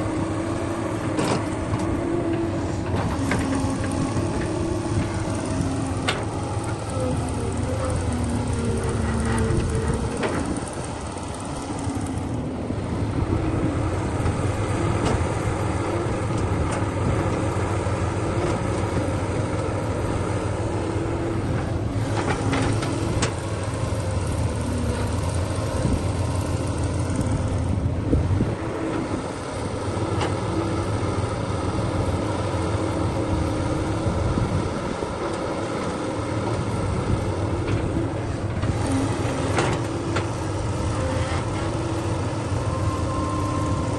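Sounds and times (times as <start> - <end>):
heavy machine engine running: 0.0 - 43.9.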